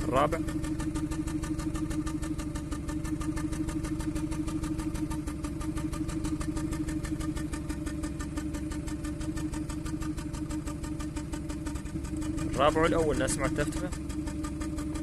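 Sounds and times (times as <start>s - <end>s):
car engine idling with misfire: 0.0s - 15.0s.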